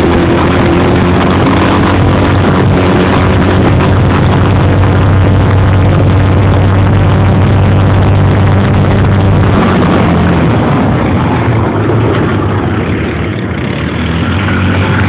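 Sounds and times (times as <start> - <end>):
quad bike engines running: 0.0 - 15.0.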